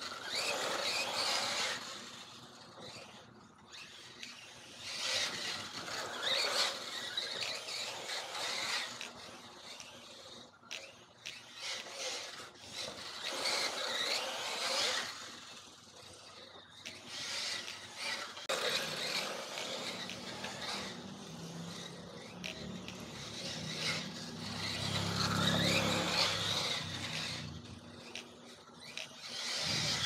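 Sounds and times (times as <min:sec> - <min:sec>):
electric motor whine of toy car: 0:00.0 - 0:30.0.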